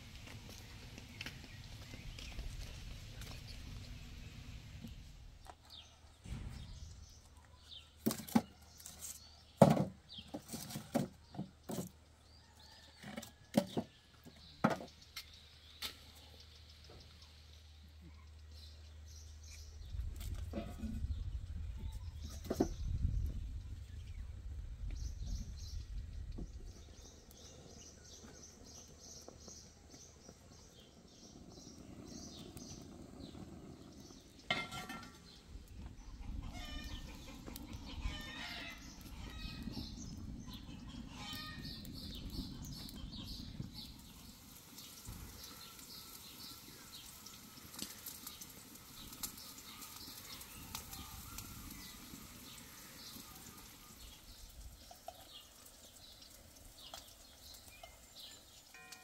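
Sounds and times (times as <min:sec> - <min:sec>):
birds chirping: 0:00.1 - 0:10.5, 0:14.0 - 0:59.0.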